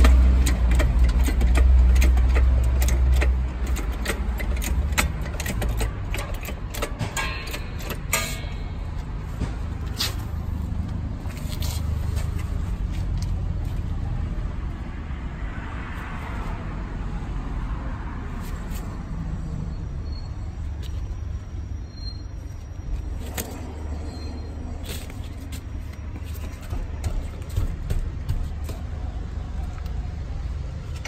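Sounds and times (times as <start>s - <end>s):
motor vehicle rumble: 0.0s - 31.0s.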